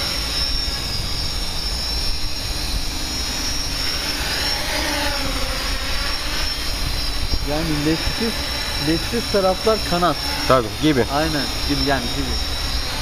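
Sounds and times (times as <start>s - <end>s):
drone motors whirring: 0.0s - 13.0s.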